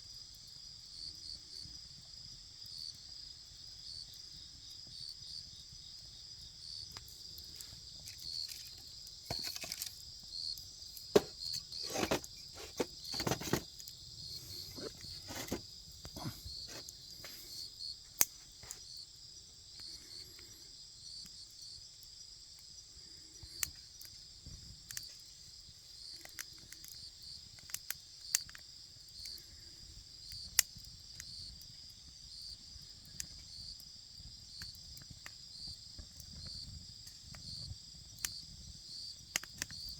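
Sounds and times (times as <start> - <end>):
insects chirping: 0.0 - 39.9
campfire crackling and popping: 1.7 - 39.9.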